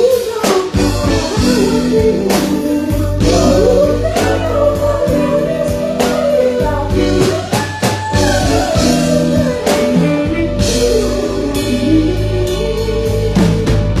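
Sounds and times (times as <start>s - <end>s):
live band playing: 0.0s - 14.0s
person singing: 0.0s - 14.0s.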